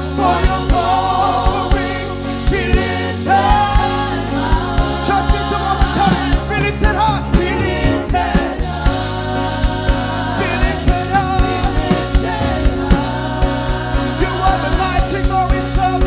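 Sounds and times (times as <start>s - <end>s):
gospel band playing: 0.0s - 16.0s
person singing: 0.0s - 16.0s.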